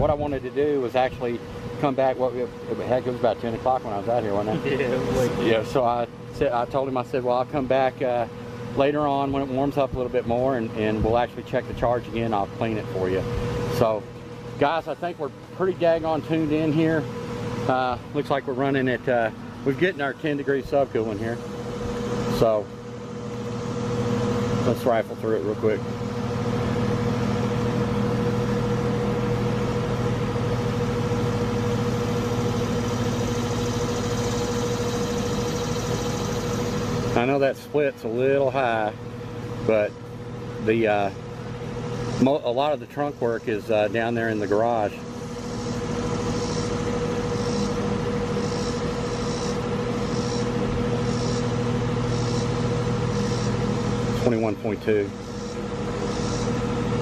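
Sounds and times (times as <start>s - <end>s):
compressor hum: 0.0s - 57.0s
fan rushing: 0.0s - 57.0s.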